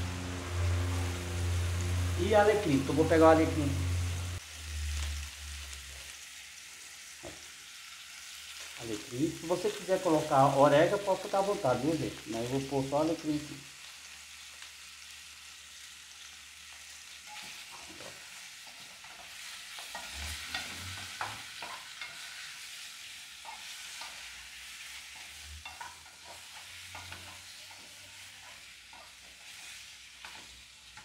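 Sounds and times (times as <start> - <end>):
potatoes sizzling in oil: 0.0 - 31.0.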